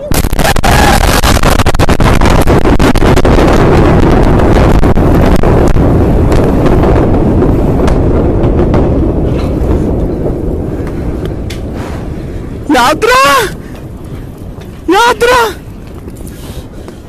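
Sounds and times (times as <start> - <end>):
crackling: 0.0 - 17.0
explosion roar and rumble: 0.0 - 17.0.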